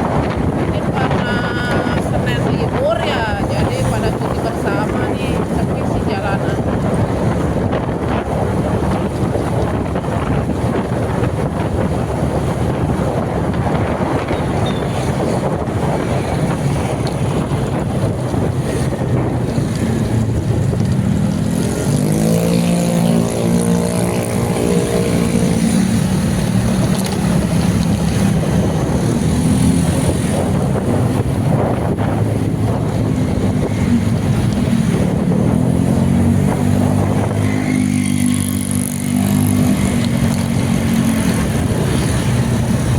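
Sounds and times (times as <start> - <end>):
vehicle engine running: 0.0 - 42.9
wind buffeting microphone: 0.0 - 42.9.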